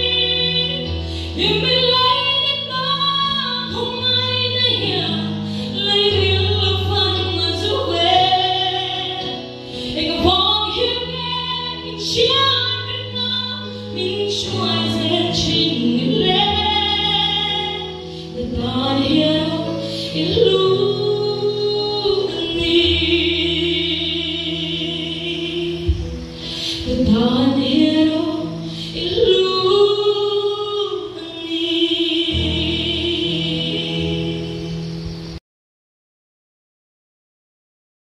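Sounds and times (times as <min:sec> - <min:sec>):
woman singing gospel song: 0:00.0 - 0:34.7.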